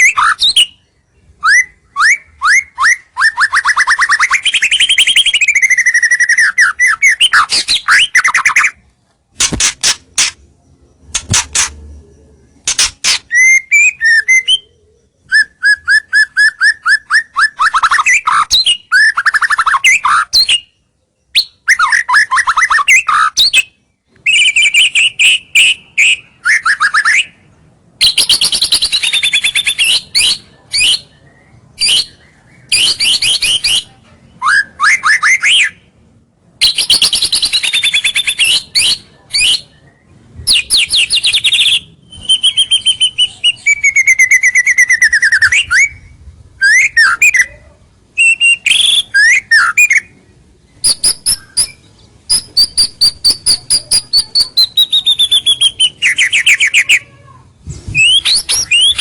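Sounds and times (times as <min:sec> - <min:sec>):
bird singing trills and whistles: 0:00.0 - 0:08.8, 0:09.4 - 0:35.9, 0:36.6 - 0:57.1, 0:57.9 - 0:59.0.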